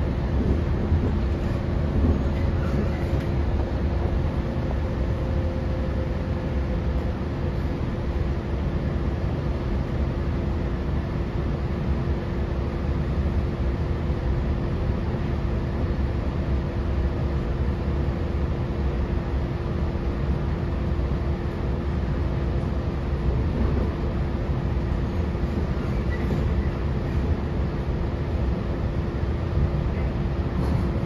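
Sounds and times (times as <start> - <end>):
constant hum: 0.0 - 31.0
train running low rumble: 0.0 - 31.0.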